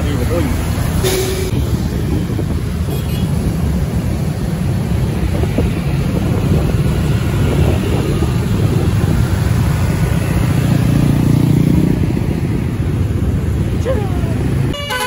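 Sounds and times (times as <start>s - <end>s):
motorcycle engines: 0.0s - 15.0s
traffic rumble: 0.0s - 15.0s.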